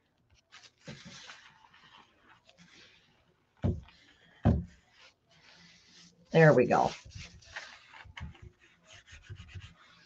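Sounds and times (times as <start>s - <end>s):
paper rubbed by hand: 0.4s - 10.0s.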